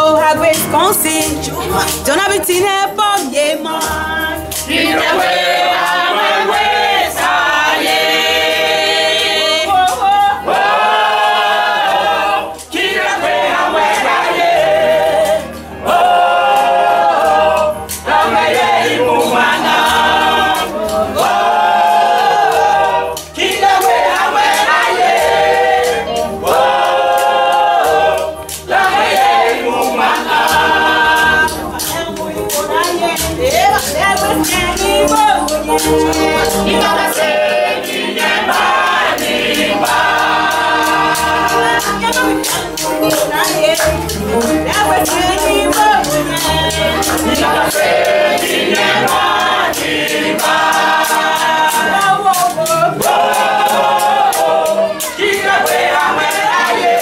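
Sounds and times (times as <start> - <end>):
low regular beat: 0.0 - 57.0
choir singing: 3.6 - 57.0.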